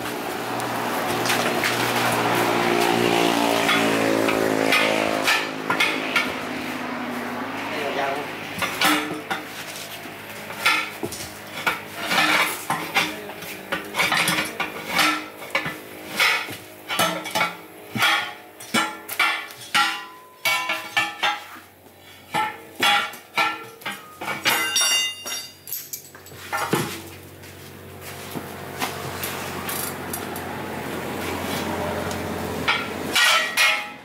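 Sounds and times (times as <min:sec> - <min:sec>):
tire iron clanking on rim: 0:00.0 - 0:06.6, 0:08.5 - 0:34.0
wheel rim ringing: 0:01.1 - 0:06.6, 0:08.6 - 0:27.1, 0:29.2 - 0:34.0.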